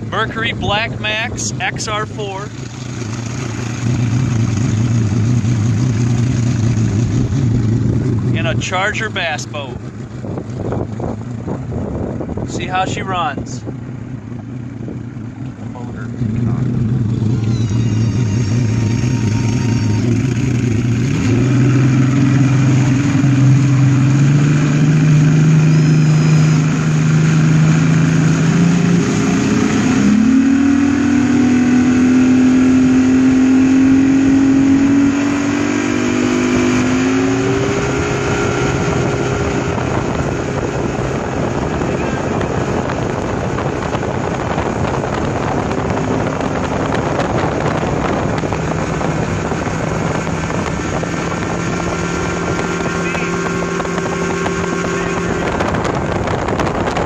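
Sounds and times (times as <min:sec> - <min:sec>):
wind and water rushing: 0:00.0 - 0:15.1, 0:17.9 - 0:57.0
outboard motor running: 0:00.0 - 0:57.0.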